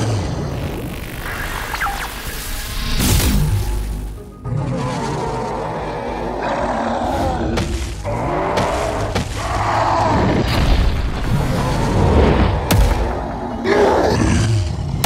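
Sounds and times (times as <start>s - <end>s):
background music: 2.4s - 15.0s.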